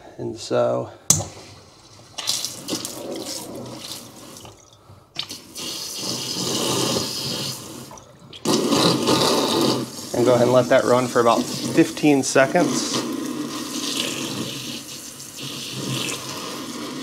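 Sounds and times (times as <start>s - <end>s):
water running into sink: 1.2s - 17.0s.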